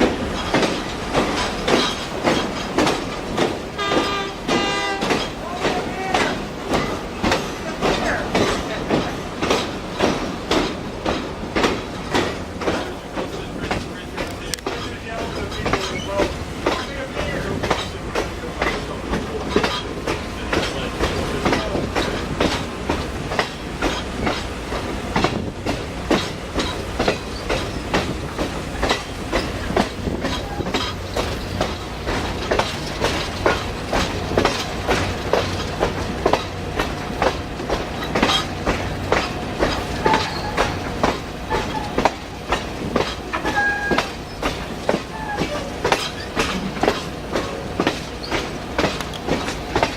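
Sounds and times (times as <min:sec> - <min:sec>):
train cars rumbling on track: 0:00.0 - 0:49.9
wheels clicking over rail joints: 0:00.0 - 0:49.9.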